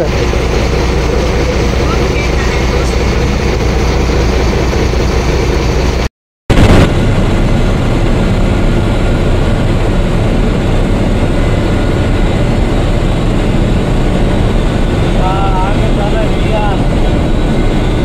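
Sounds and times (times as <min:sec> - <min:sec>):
vehicle road and engine noise: 0:00.0 - 0:18.0
wind noise: 0:00.2 - 0:18.0.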